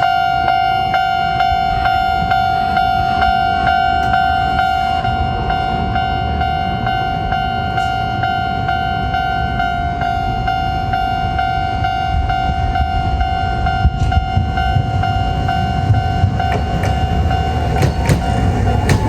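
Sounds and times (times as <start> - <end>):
level-crossing alarm ringing: 0.0 - 19.0
low rumble of approaching tram: 0.0 - 19.0.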